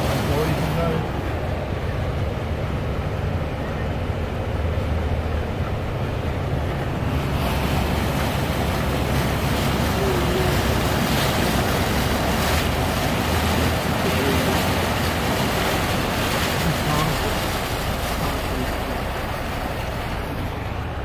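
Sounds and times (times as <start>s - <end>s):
low engine hum: 0.0s - 21.0s
water hissing from car wheels: 0.0s - 21.0s.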